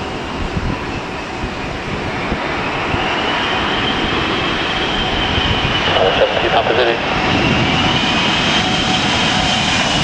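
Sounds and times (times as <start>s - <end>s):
high engine whine: 0.0s - 10.0s
jet engines rumbling: 0.0s - 10.0s
wind buffeting microphone: 0.0s - 10.0s.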